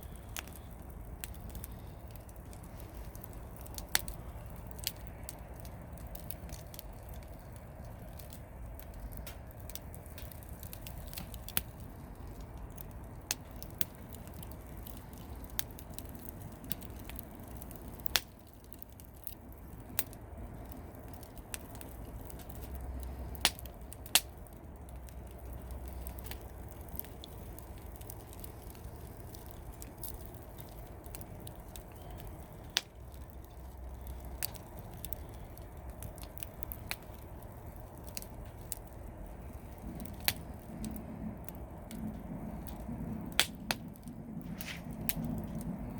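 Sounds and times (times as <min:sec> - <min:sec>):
campfire crackling: 0:00.0 - 0:45.9
firewood popping: 0:00.0 - 0:45.9.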